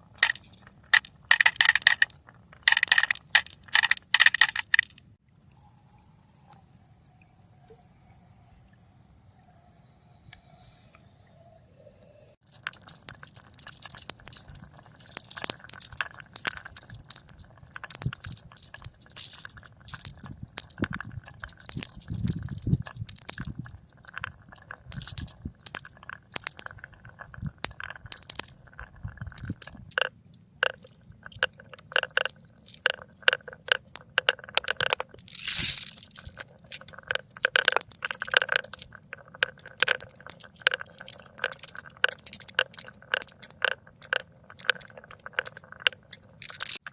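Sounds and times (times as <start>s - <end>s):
marbles clattering down marble run: 0.1s - 5.0s, 12.5s - 46.9s.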